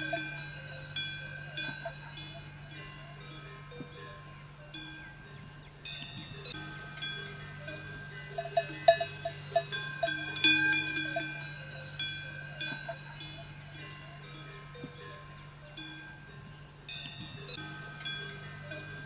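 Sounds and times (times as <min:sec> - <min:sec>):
bells clanking: 0:00.0 - 0:19.0.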